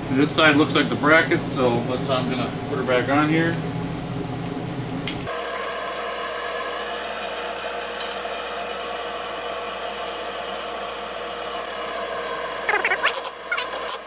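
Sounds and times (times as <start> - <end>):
fan motor humming: 0.0 - 14.0.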